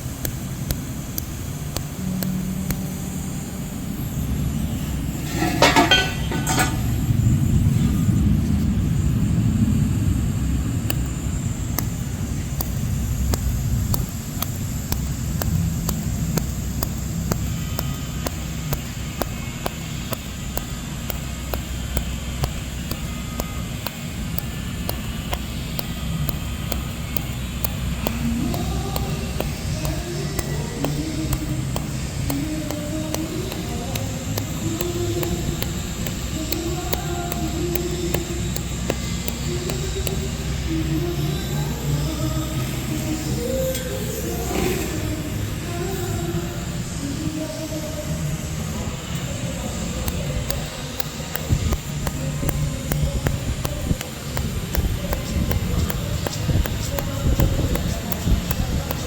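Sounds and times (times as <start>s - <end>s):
welding arc crackle: 0.0s - 47.4s, 48.4s - 59.0s
welding machine hum: 0.0s - 59.0s.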